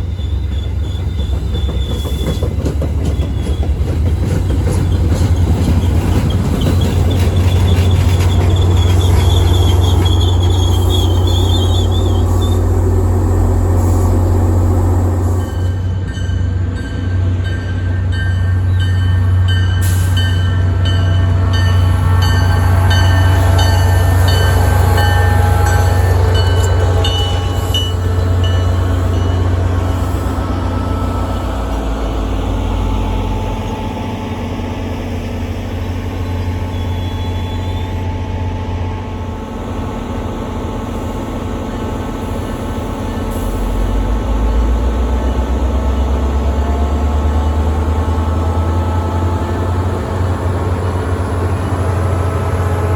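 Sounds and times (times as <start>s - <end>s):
train rolling past: 0.0s - 52.9s.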